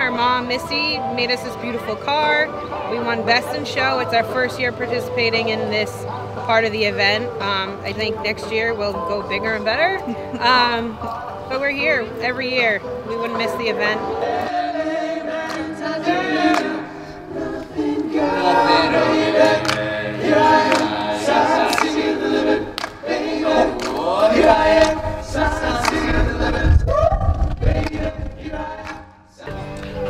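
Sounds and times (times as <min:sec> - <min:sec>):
choir-like singing music: 0:00.0 - 0:30.0.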